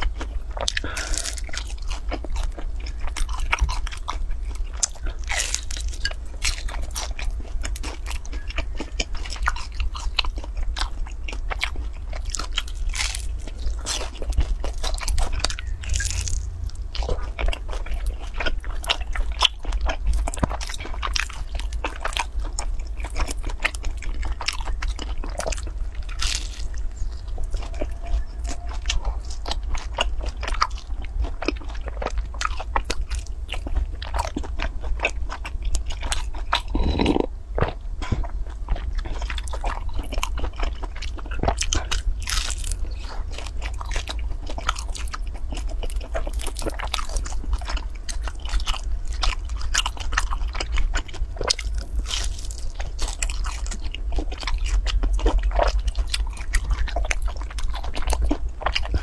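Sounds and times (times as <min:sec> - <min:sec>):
chewing sticky cake: 0:00.0 - 0:59.0.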